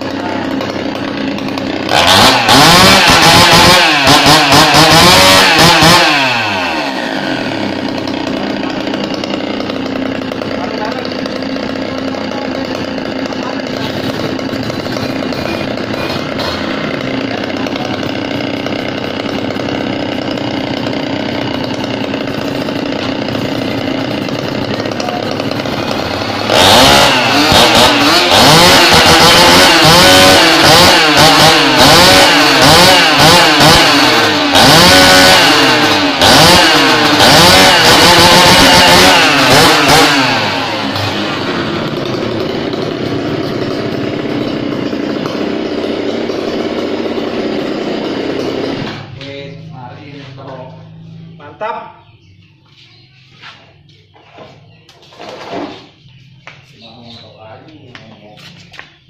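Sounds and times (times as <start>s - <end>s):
chainsaw idling and revving: 0.0s - 51.6s
motorcycle engine idling and revving: 0.0s - 59.0s.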